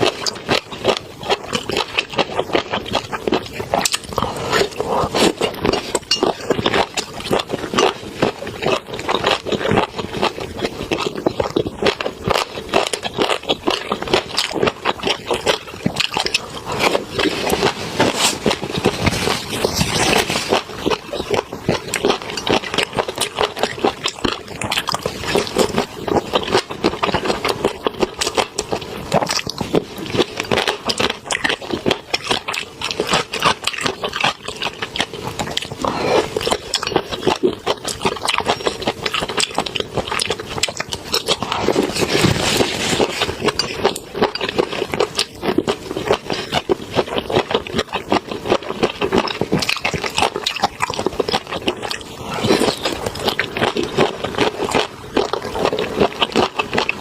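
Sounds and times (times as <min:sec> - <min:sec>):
wet chewing clicks: 0:00.0 - 0:57.0.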